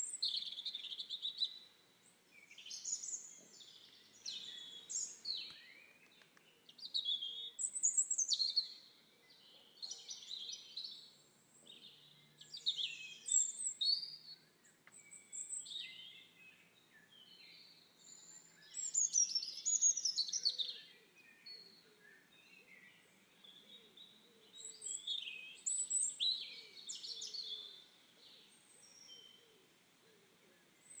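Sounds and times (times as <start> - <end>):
wild birds chirping: 0.0 - 31.0.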